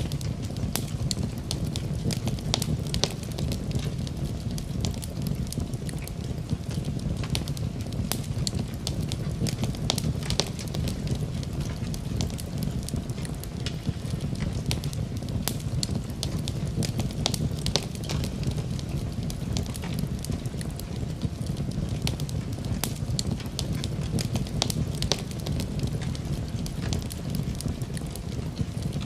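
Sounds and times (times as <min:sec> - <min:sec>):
cooking fire crackling: 0:00.0 - 0:29.0.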